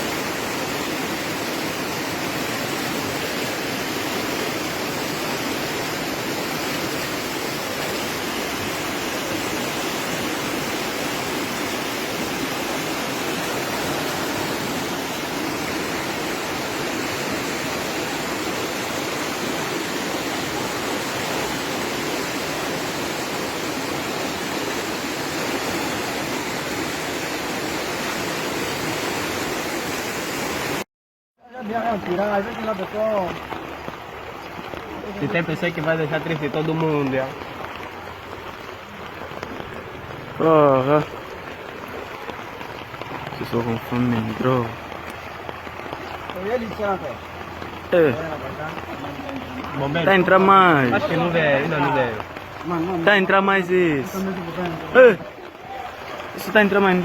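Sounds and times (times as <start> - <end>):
floodwater rushing: 0.0 - 30.8, 31.4 - 57.0.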